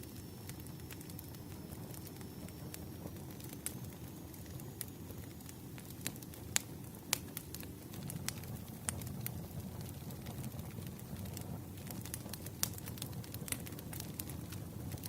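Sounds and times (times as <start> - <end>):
fire crackles and pops: 0.0 - 15.0
wood fire rumble: 0.0 - 15.0.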